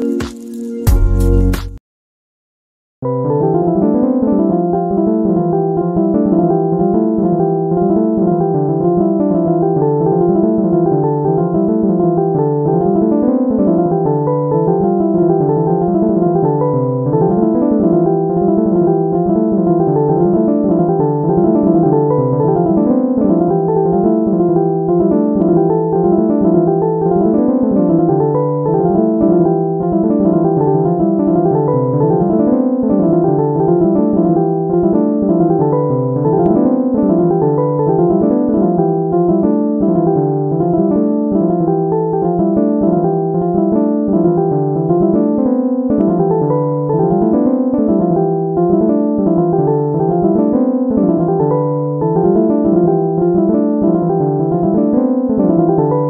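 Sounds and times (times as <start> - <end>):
piano music: 0.0 - 1.8, 3.0 - 56.0.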